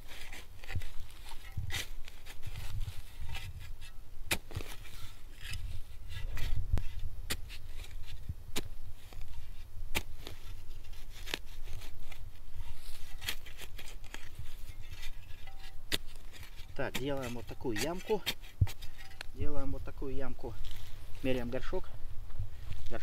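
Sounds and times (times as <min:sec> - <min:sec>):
hand spade digging into soil: 0:00.0 - 0:21.8.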